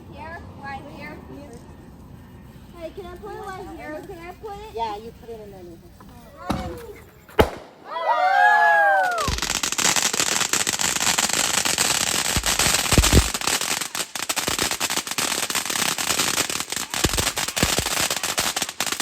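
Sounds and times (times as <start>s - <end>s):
fireworks crackling: 0.0s - 19.0s
fireworks bangs: 1.0s - 19.0s.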